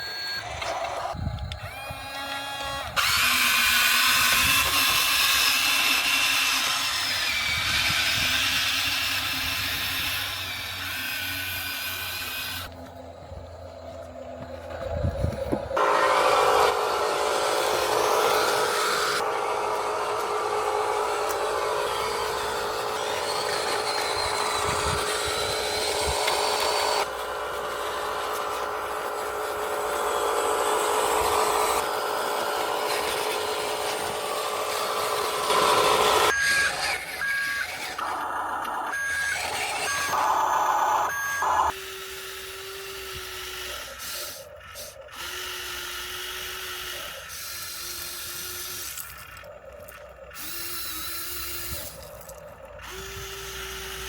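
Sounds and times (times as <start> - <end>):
electric motors whining: 0.0 - 54.0.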